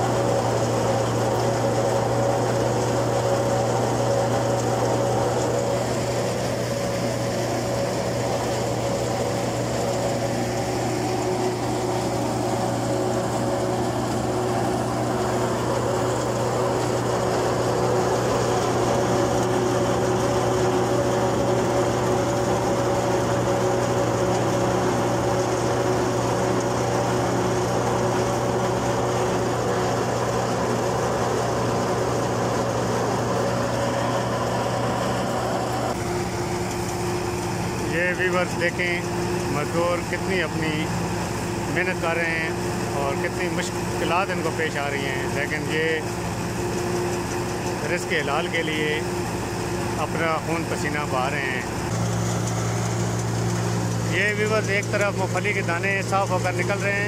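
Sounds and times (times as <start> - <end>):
engine humming tones: 0.0 - 57.0
peanut thresher running: 0.0 - 57.0.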